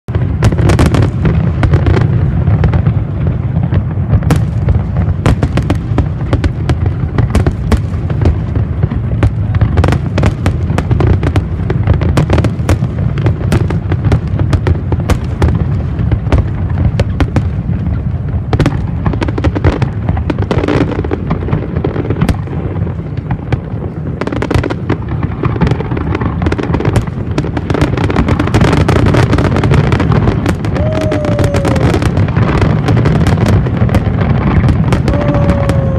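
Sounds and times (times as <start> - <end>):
deep rumble of fireworks booms: 0.0 - 35.9
fireworks cracking: 0.0 - 35.9.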